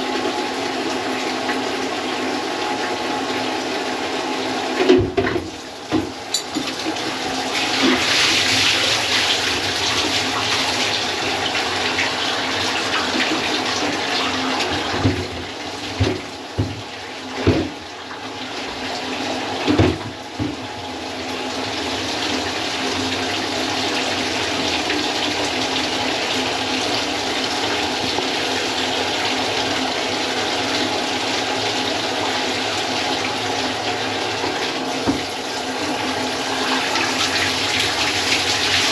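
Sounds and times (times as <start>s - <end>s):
water running in bathroom: 0.0s - 38.9s.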